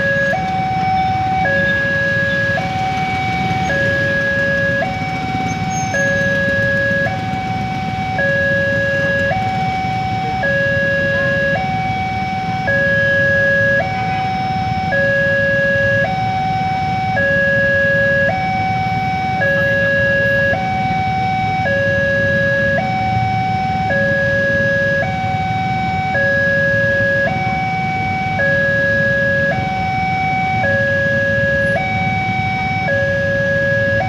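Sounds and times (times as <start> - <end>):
level crossing two-tone alarm: 0.0 - 34.0
traffic hum: 0.0 - 34.0.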